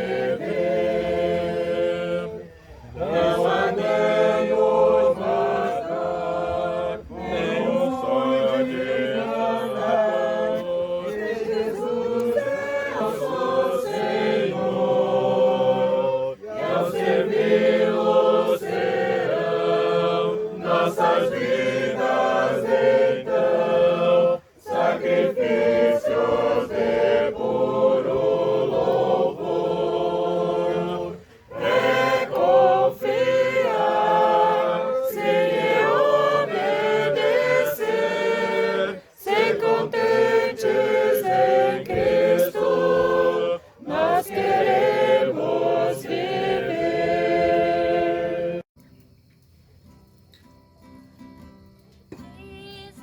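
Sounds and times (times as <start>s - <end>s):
group singing a hymn: 0.0s - 48.7s.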